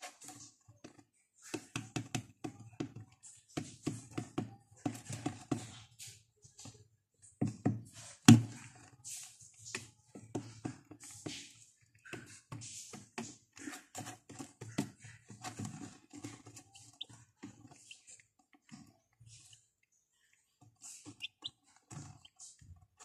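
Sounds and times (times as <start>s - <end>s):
chicks pecking on plastic floor: 0.0s - 23.0s.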